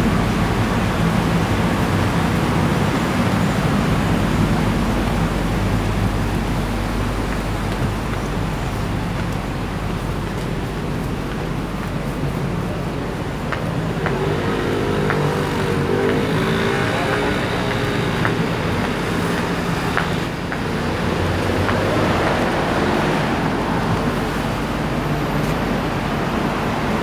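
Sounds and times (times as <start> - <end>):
heavy vehicle engines humming: 0.0 - 27.0
road traffic passing: 0.0 - 27.0.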